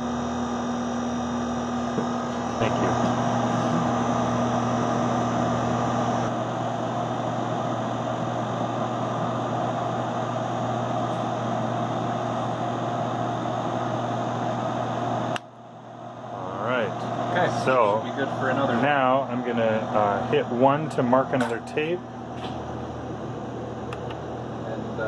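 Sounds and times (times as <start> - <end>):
computer fan noise: 0.0 - 25.0
low electrical hum: 0.0 - 25.0.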